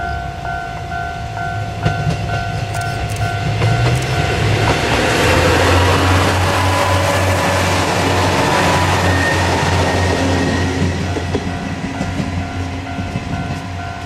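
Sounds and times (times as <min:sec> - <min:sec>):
level-crossing bell dinging: 0:00.0 - 0:05.9, 0:06.5 - 0:14.0
diesel railcar engines droning: 0:00.0 - 0:14.0
train wheels clacking on rail joints: 0:01.8 - 0:14.0.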